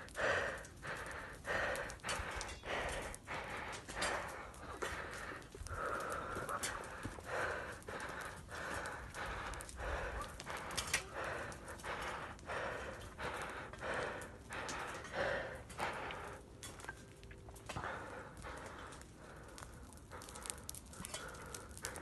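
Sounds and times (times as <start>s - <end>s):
person panting heavily: 0.0s - 16.9s, 17.7s - 22.0s.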